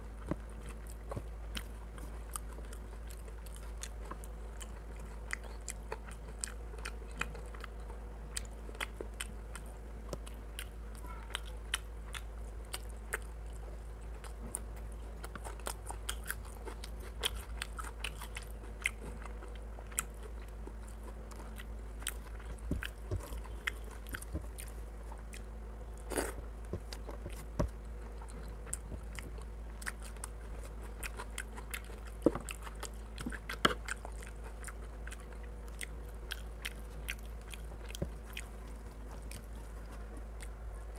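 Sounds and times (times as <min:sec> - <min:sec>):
wet chewing: 0:00.0 - 0:40.9.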